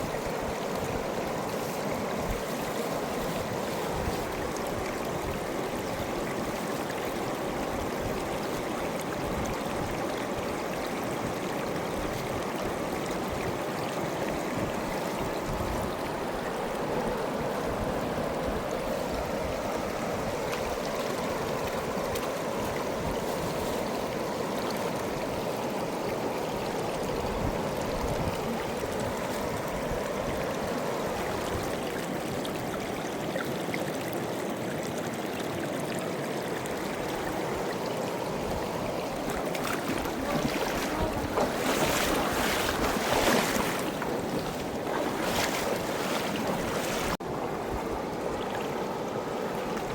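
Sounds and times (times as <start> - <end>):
river water flowing over rocks: 0.0 - 49.9.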